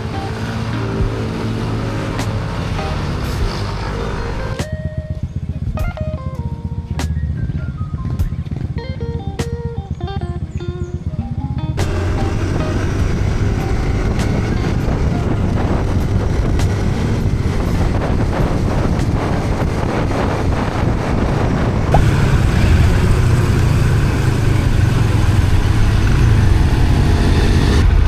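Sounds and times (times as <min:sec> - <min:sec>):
motorcycle engine rumbling: 0:00.0 - 0:28.0
wind noise on microphone: 0:00.0 - 0:28.0.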